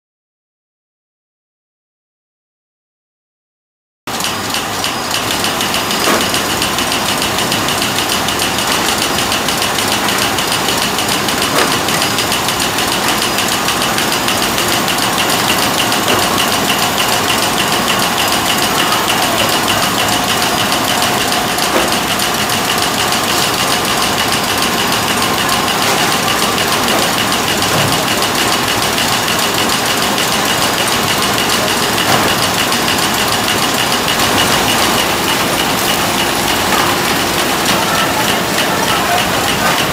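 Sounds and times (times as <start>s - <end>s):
packing machine clatter: 4.1s - 39.9s.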